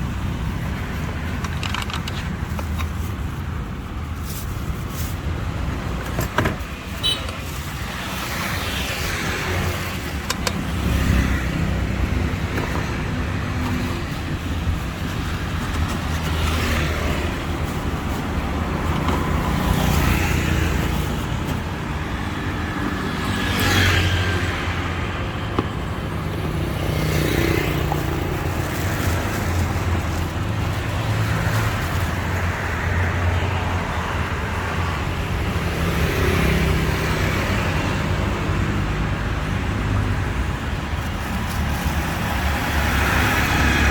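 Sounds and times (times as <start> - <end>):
road traffic passing: 0.0 - 43.9.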